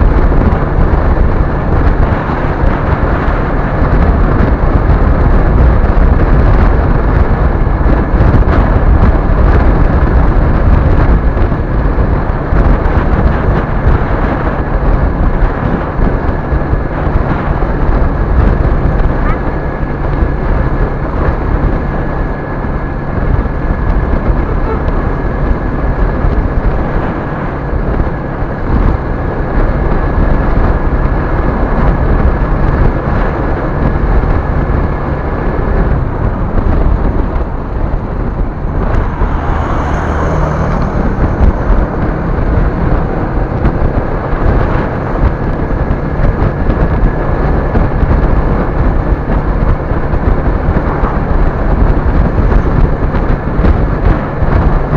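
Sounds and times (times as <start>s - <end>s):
vehicle engine rumble: 0.0s - 54.9s
wind on microphone: 0.0s - 54.9s.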